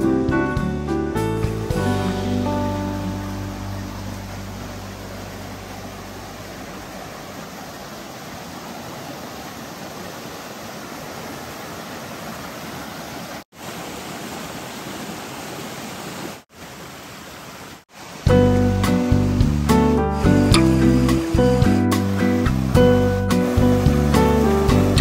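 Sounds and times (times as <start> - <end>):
stream water rushing over rocks: 1.3 - 25.0.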